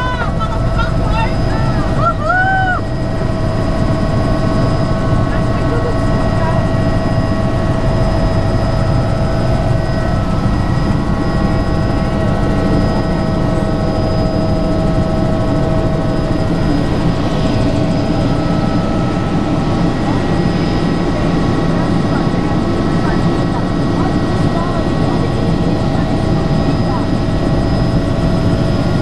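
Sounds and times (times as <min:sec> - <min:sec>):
helicopter engine and rotor noise: 0:00.0 - 0:29.0.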